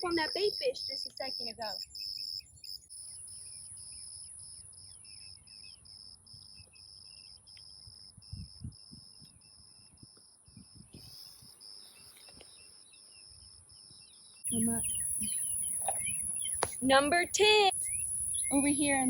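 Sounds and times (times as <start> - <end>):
faint bird chirps: 0.0 - 19.0
insects chirping in pulses: 0.0 - 19.0.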